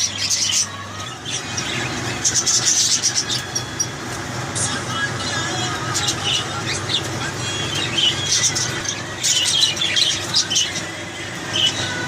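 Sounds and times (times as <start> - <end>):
parrots chattering and squawking: 0.0 - 12.0.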